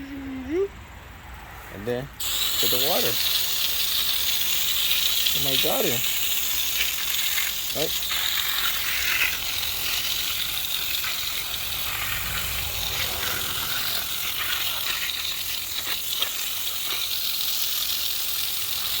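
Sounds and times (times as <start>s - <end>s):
water spraying from garden hose: 2.2s - 19.0s.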